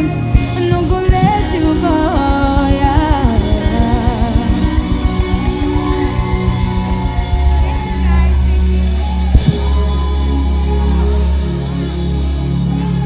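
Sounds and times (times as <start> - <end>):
steady drum beat: 0.0 - 12.6
held low bass note: 0.0 - 13.0.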